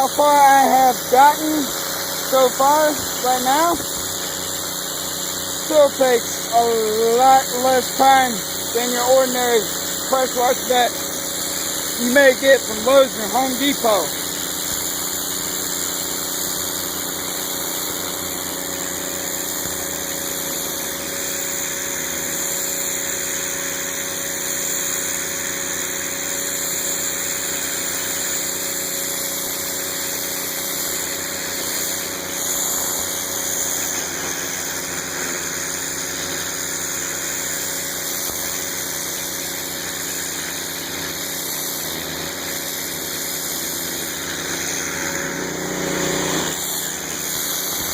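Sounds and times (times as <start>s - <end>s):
high-pressure spray hissing: 0.0s - 47.9s.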